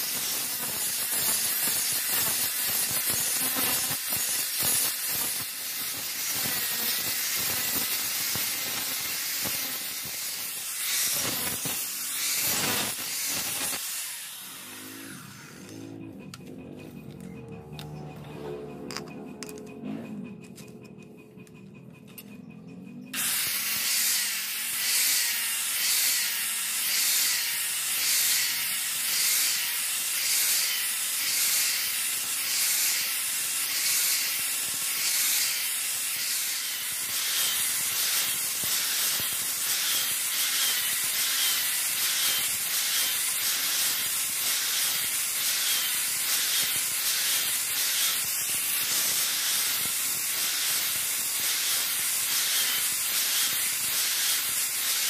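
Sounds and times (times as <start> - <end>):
angle grinder sanding steel: 0.0 - 16.1, 23.2 - 55.0.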